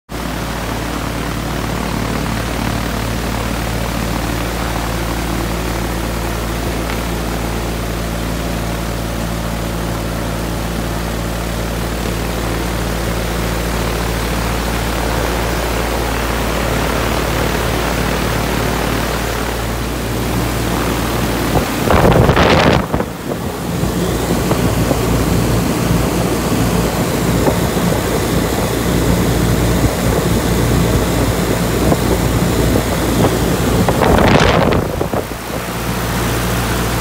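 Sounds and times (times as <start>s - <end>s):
aircraft engine running: 0.1s - 37.0s.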